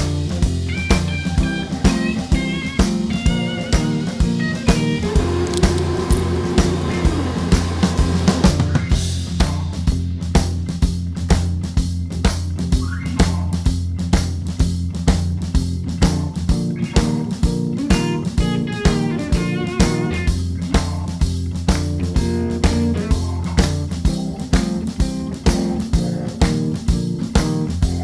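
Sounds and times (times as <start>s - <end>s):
guitar-led instrumental music: 0.0s - 9.6s, 12.1s - 28.0s.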